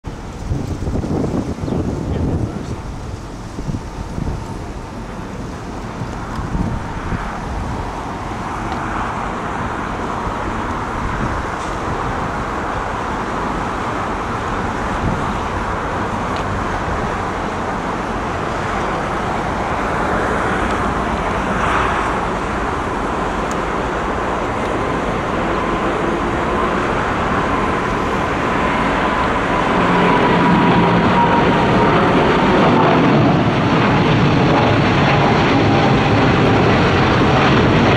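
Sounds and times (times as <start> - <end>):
jet engine roar with whine: 0.0 - 37.9
road traffic: 0.0 - 37.9.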